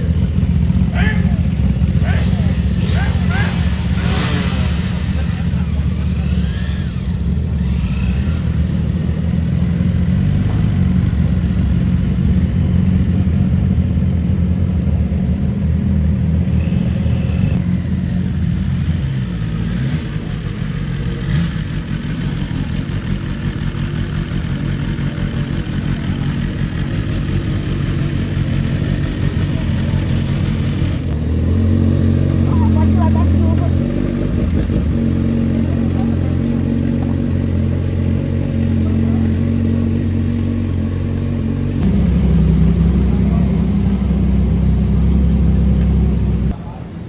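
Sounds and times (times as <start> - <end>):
motorcycle engine revving: 0.0 - 46.6
motorcycle engines idling: 0.0 - 47.0.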